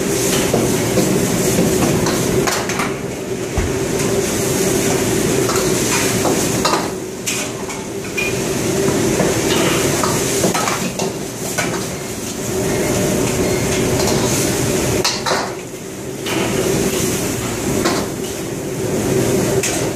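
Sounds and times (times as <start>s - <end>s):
food sizzling: 0.0s - 19.9s
gas burners roaring: 0.0s - 19.9s.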